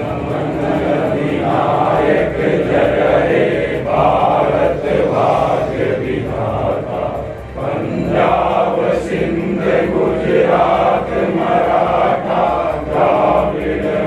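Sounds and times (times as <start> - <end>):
group singing in unison: 0.0 - 14.0.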